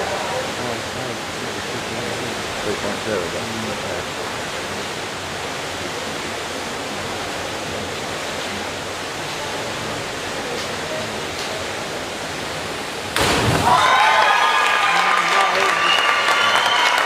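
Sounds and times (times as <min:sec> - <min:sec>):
indoor pool hall rushing noise: 0:00.0 - 0:17.0.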